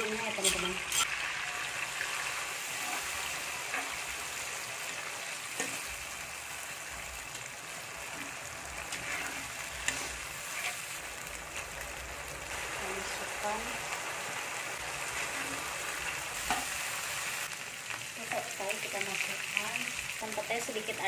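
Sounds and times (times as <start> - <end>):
spice paste sizzling in oil: 0.0 - 21.0.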